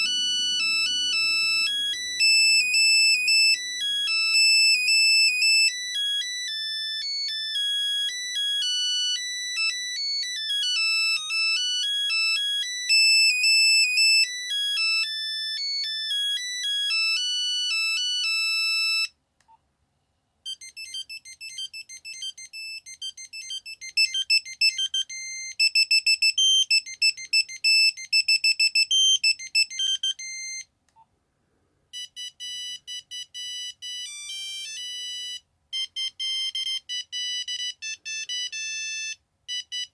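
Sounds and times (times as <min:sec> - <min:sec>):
phone beeping ringtone melody: 0:00.0 - 0:19.1, 0:20.5 - 0:30.7, 0:32.0 - 0:39.9.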